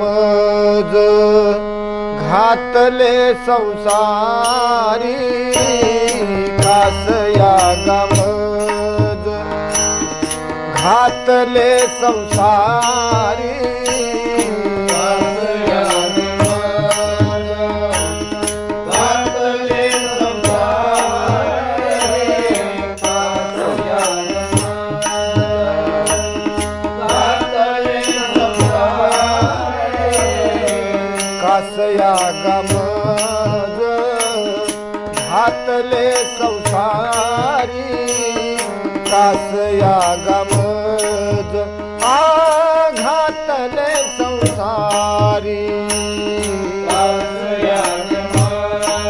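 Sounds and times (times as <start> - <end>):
harmonium melody: 0.0 - 49.0
high ticking keeping time: 0.0 - 49.0.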